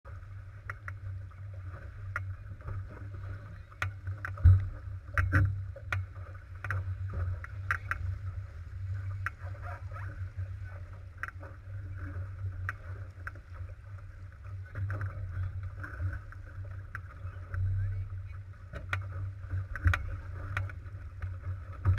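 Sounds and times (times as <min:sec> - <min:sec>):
boat knocks and thuds: 0:00.1 - 0:21.9
low rumble: 0:00.1 - 0:21.9
water rushing and splashing: 0:00.1 - 0:21.9.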